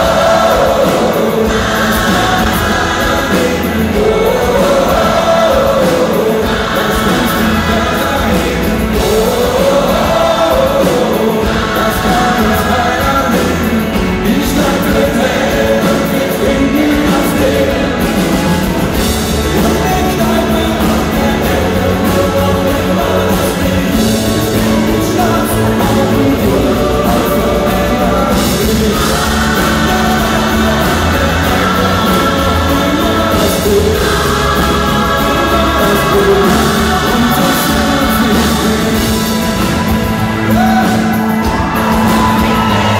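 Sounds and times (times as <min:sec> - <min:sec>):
gospel choir singing: 0:00.0 - 0:42.9
lead singer singing: 0:00.0 - 0:42.9
rock band playing: 0:00.0 - 0:42.9.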